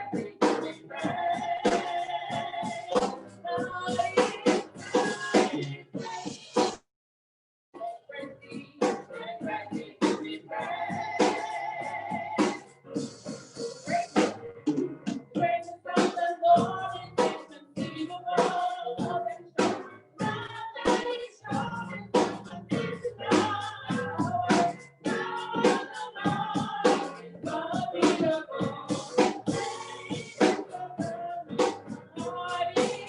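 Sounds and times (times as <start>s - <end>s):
choir singing praise song: 0.0s - 6.7s, 7.8s - 14.3s, 15.4s - 33.0s.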